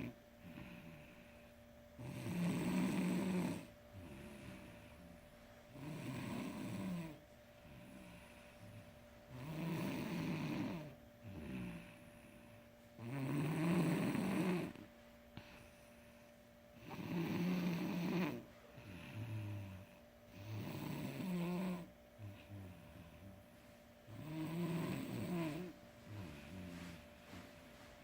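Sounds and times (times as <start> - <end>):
person snoring: 0.0 - 5.1, 5.7 - 14.8, 16.8 - 23.4, 24.1 - 27.5
soft breathing: 0.0 - 9.5, 10.1 - 13.0, 14.2 - 20.6, 21.8 - 28.0.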